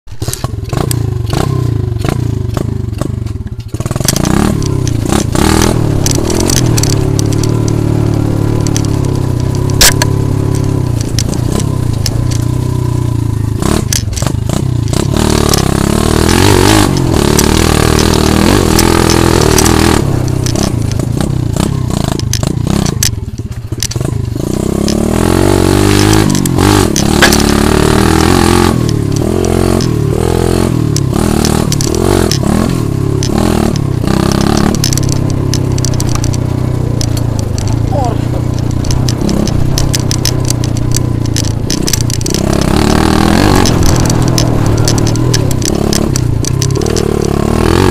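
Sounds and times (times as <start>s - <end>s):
clattering and scraping clicks: 0.1s - 47.9s
pit bike engine revving: 0.1s - 47.9s.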